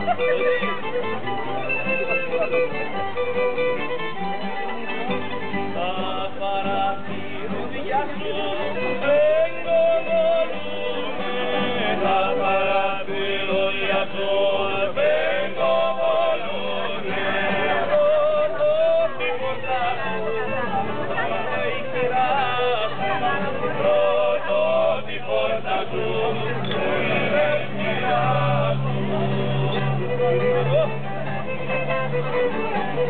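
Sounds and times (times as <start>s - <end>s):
fiddle melody: 0.0s - 33.0s
guitar accompaniment: 0.0s - 33.0s.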